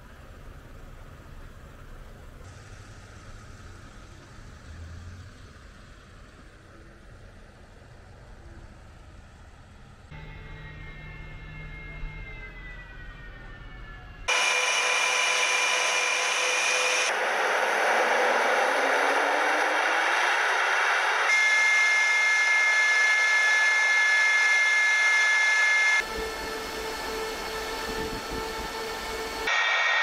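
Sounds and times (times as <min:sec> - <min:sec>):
jet engines running: 0:01.7 - 0:30.0.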